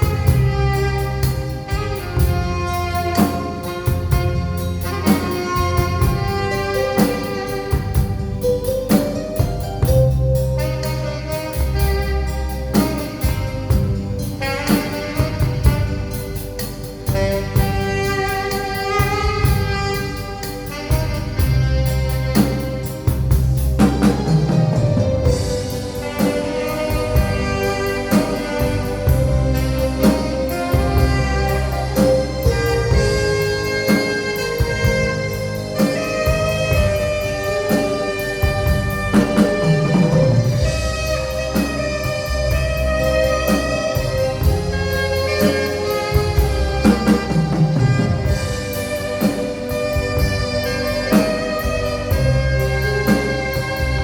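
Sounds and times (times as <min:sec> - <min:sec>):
alto saxophone melody: 0:00.0 - 0:54.0
drum kit beat: 0:00.0 - 0:54.0
keyboard: 0:00.0 - 0:54.0.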